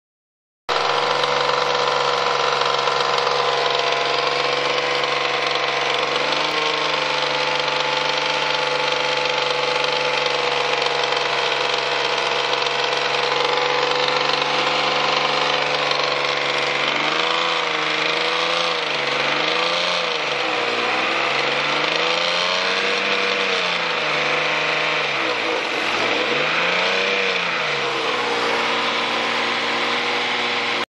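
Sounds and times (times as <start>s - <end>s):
car engine revving with knock: 0.7s - 30.8s.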